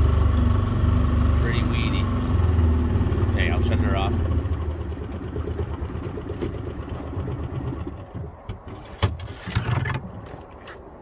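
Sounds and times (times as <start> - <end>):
outboard motor running: 0.0 - 10.7.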